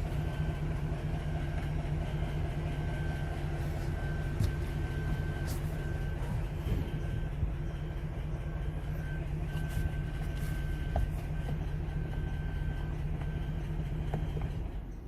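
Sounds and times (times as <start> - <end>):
suv engine humming: 0.0 - 15.0.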